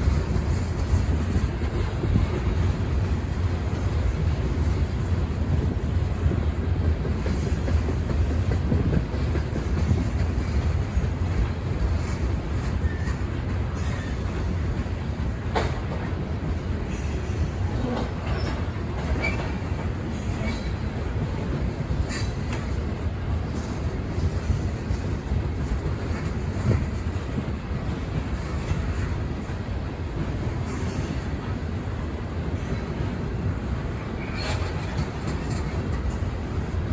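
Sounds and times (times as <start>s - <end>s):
clicks of train wheels: 0.0s - 36.9s
freight train rumbling: 0.0s - 36.9s.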